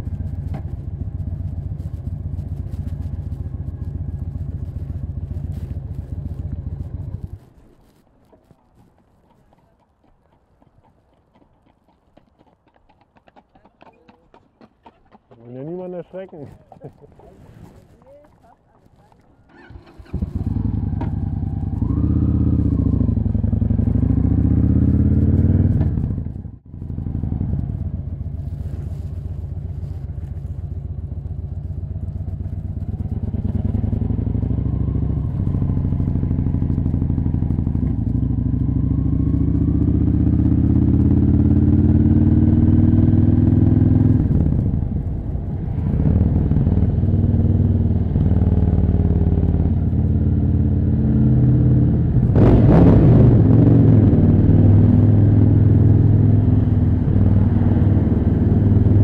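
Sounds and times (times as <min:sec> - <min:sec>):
motorcycle engine accelerating: 0:00.0 - 0:08.0, 0:19.5 - 0:59.0.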